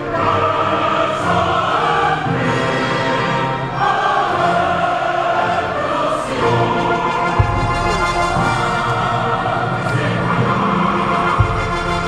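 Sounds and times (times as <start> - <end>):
choir singing long notes: 0.0 - 12.0
orchestra playing: 0.0 - 12.0.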